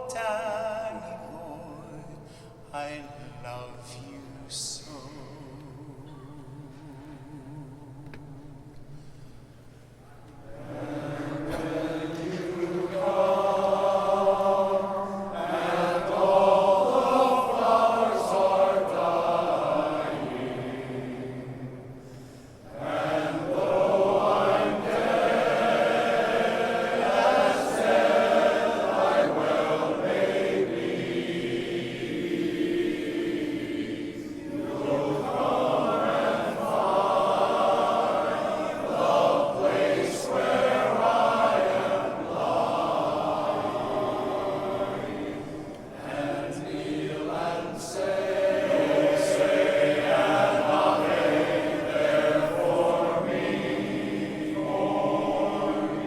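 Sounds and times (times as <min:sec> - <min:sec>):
men's choir singing a ballad: 0:00.0 - 0:08.7, 0:10.4 - 0:56.0.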